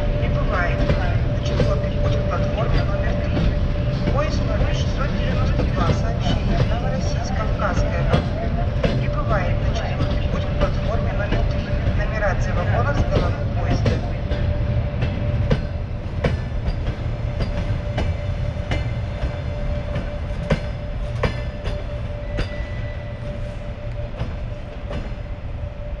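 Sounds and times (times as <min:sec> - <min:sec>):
low rumble: 0:00.0 - 0:26.0
train wheels clicking over rail joints: 0:00.0 - 0:26.0.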